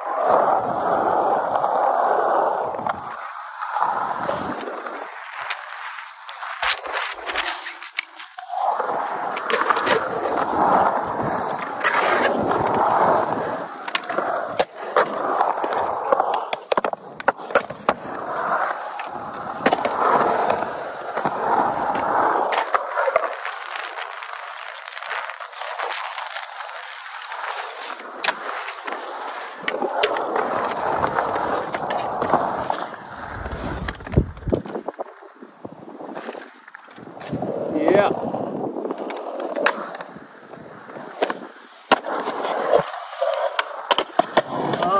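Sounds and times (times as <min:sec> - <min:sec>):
skateboard wheels rolling on concrete: 0:00.0 - 0:44.9.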